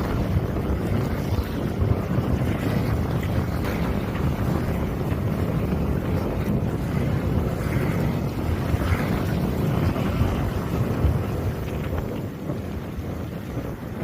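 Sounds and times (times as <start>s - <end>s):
water washing past hull: 0.0s - 14.0s
wind buffeting microphone: 0.0s - 14.0s.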